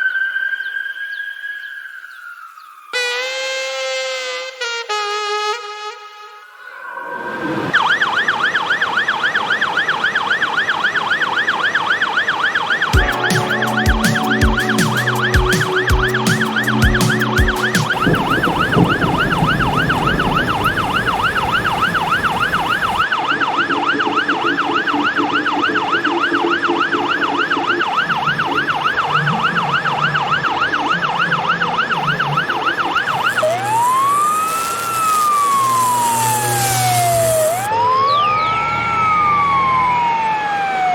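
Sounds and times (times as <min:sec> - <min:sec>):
ambulance siren: 0:06.6 - 0:40.9.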